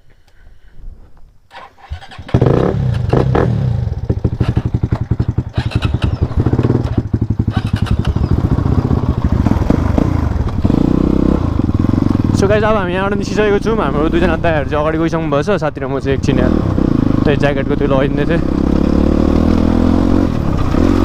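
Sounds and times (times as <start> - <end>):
motorcycle engine running: 2.2 - 21.0.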